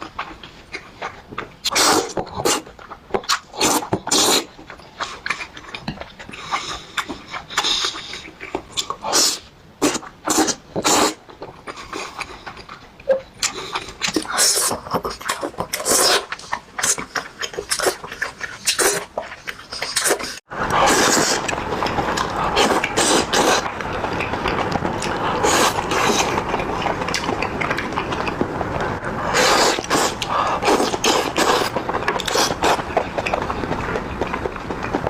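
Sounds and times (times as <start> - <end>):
person chewing and smacking: 0.0 - 35.0.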